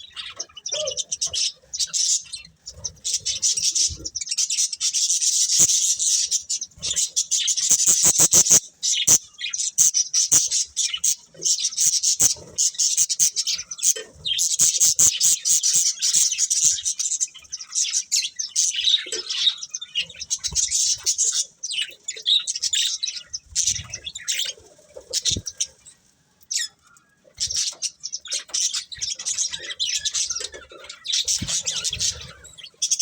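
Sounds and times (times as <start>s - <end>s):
budgerigars chirping: 0.0s - 25.8s, 27.4s - 33.0s.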